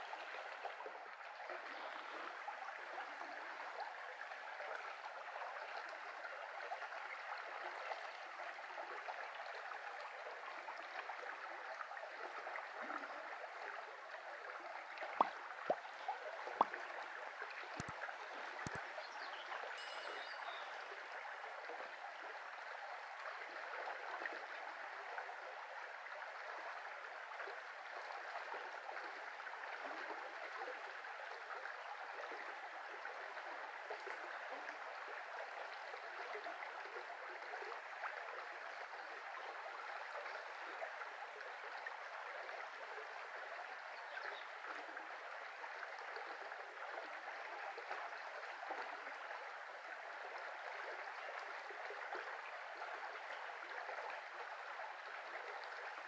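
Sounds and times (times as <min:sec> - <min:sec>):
brook running water: 0:00.0 - 0:56.0.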